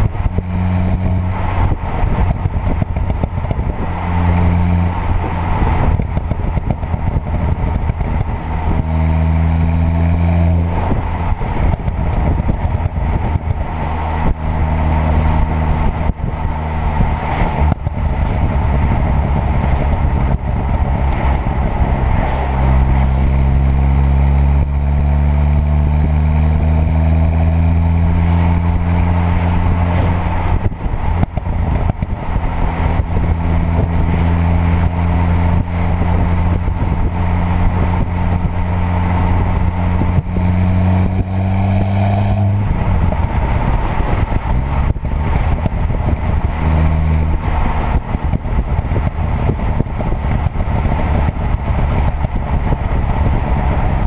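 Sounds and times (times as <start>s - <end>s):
car engine droning: 0.0s - 54.0s
exhaust crackles and pops: 0.0s - 54.0s.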